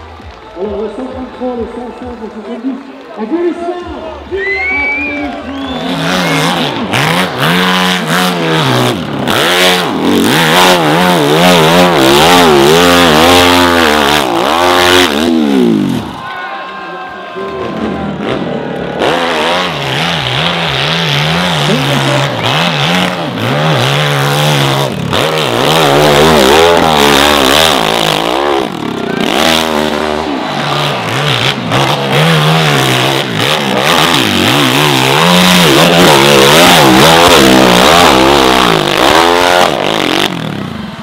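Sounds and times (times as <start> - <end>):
motorcycle engine revving hard: 5.2 - 16.2, 17.7 - 41.0.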